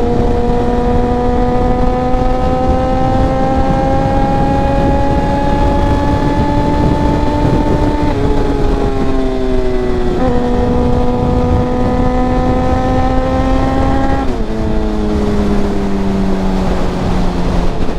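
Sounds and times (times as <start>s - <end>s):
motorcycle engine pulling: 0.0s - 17.9s
wind rushing over microphone: 0.0s - 17.9s.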